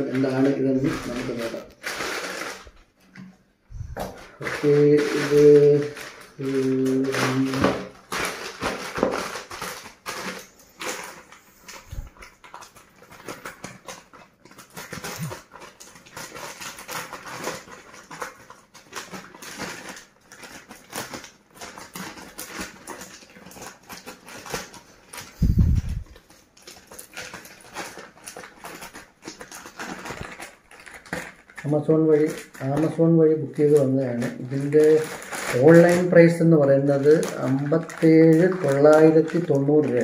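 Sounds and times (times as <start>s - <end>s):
plastic bag crinkling: 0.0s - 40.0s.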